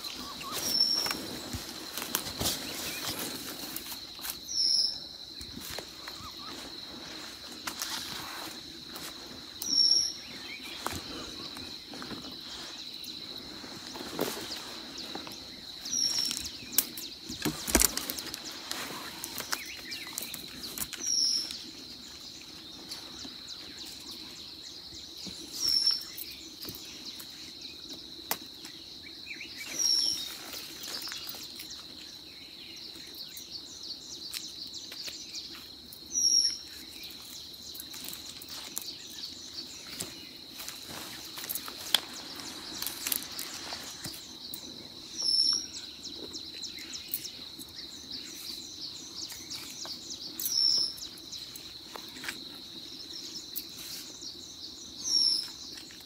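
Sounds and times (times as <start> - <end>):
dry leaves and twigs crackling: 0.0 - 32.3, 34.2 - 56.0.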